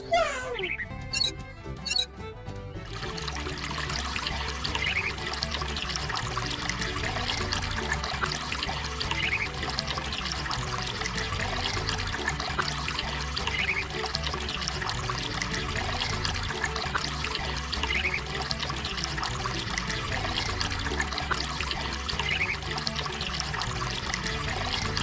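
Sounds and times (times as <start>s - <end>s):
water trickling and splashing: 0.5s - 25.0s.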